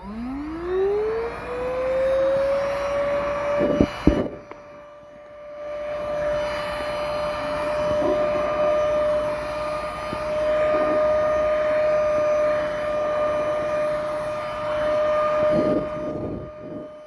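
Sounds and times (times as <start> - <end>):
stick vacuum cleaner running: 0.0 - 17.0.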